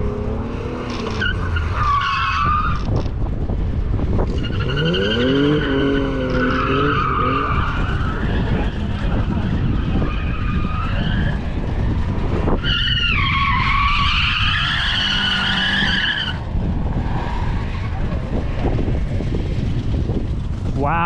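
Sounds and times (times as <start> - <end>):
car engine running hard: 2.8 - 12.6, 13.2 - 21.0.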